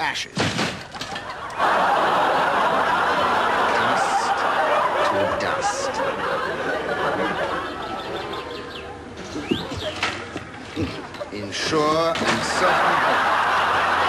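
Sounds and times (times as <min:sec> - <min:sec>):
audience laughing: 0:01.2 - 0:10.8, 0:11.6 - 0:14.0.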